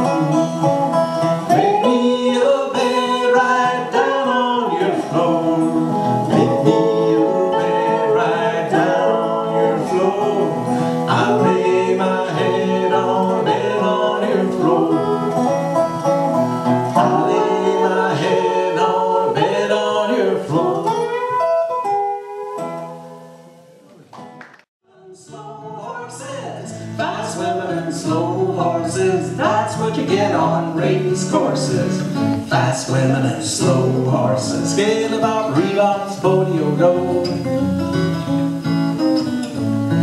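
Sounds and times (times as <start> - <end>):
person singing: 0.0 - 16.0, 16.9 - 21.6, 24.9 - 37.5
guitar plucks: 0.0 - 24.5, 25.6 - 40.0
resonator guitar folk song: 0.0 - 40.0.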